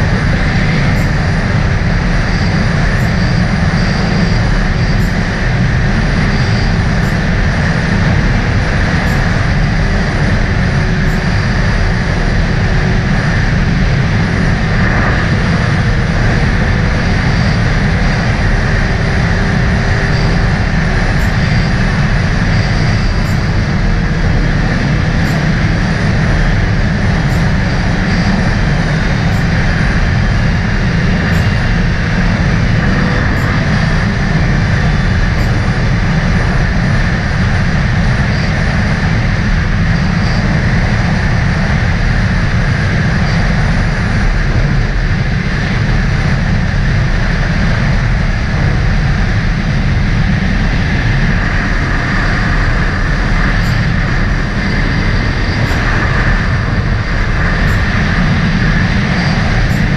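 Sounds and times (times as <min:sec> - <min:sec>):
jet ski engine running: 0:00.0 - 0:59.9
wind buffeting microphone: 0:00.0 - 0:59.9.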